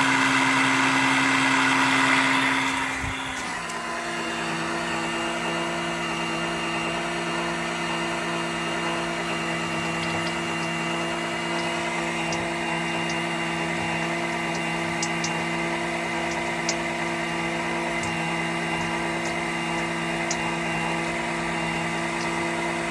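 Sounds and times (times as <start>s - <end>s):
electric pump running: 0.0s - 22.9s.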